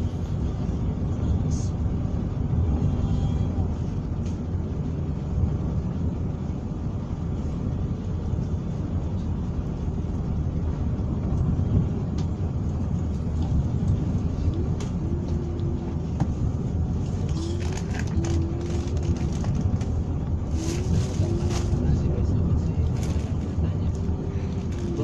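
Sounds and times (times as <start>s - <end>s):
train rumbling inside coach: 0.0s - 25.0s.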